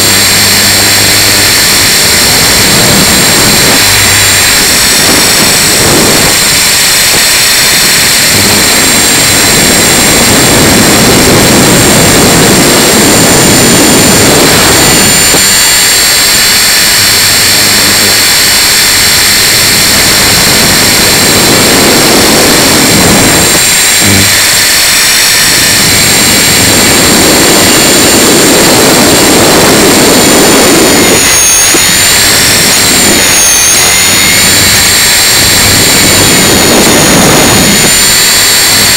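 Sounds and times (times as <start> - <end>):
rc helicopter motor whine: 0.0 - 38.9
rotor noise: 0.0 - 38.9
wind gusts: 0.0 - 38.9.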